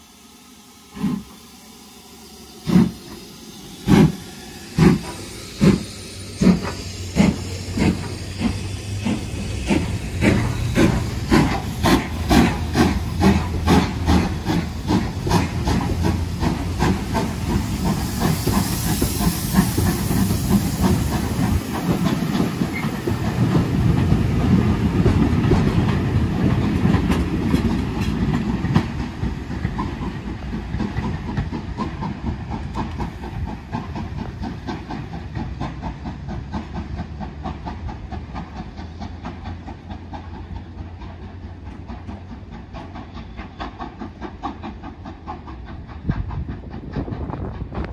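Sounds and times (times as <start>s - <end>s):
steam locomotive exhaust beats: 0.0s - 47.9s
train wheels rumbling and clattering: 0.9s - 47.9s.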